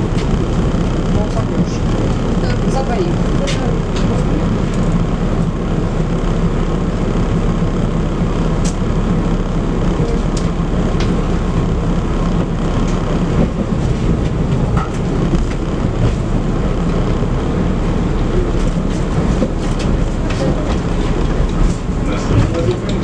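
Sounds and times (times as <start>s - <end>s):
tram motors and wheels rumbling: 0.0s - 23.0s.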